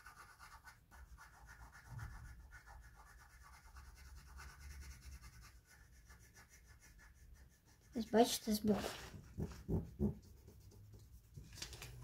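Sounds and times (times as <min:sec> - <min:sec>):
pencil scratching on paper: 0:00.0 - 0:11.5.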